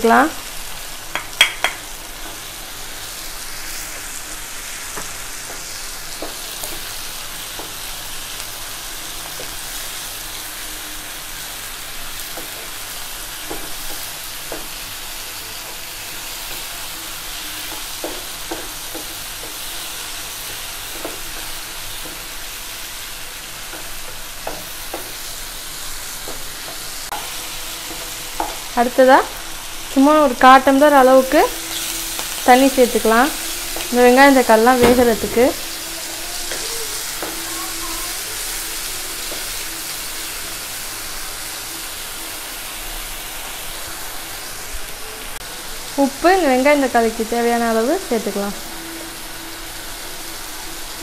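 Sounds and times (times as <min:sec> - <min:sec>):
onions sizzling in a pan: 0:00.0 - 0:51.0.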